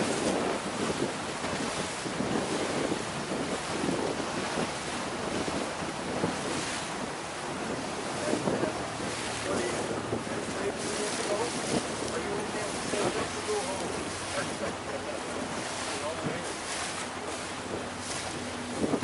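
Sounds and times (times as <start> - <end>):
water splashing along boat hull: 0.0 - 19.0
wind buffeting microphone: 0.0 - 19.0.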